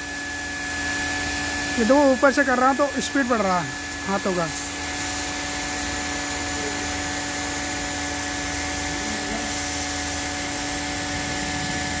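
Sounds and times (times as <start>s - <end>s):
hot-air welding gun whine: 0.0s - 12.0s.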